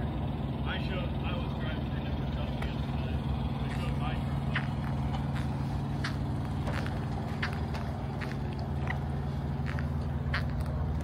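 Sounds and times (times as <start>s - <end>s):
large engine idling: 0.0s - 11.0s.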